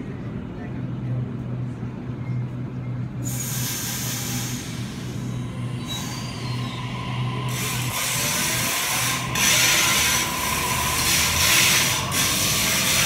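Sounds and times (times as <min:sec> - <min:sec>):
train clattering on rails: 0:02.1 - 0:13.0.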